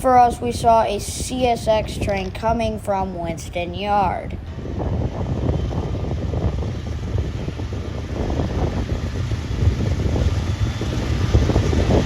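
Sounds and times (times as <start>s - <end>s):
freight train rumble: 0.0s - 12.0s
wind buffeting microphone: 0.0s - 12.0s.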